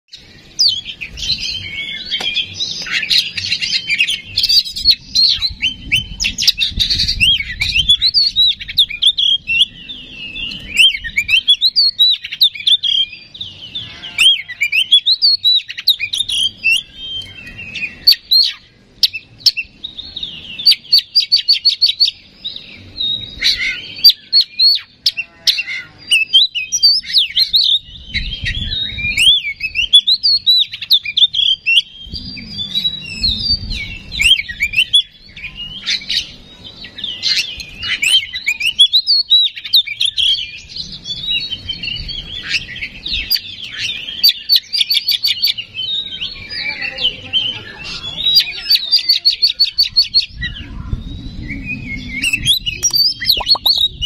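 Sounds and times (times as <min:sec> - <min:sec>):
bird singing whistled song: 0:00.1 - 0:54.0.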